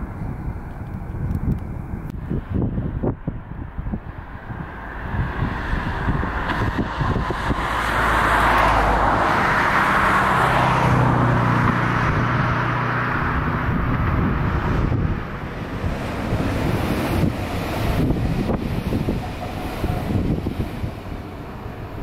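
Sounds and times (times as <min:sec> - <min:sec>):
road vehicle passing: 0:00.0 - 0:22.0
wind on microphone: 0:00.0 - 0:22.0.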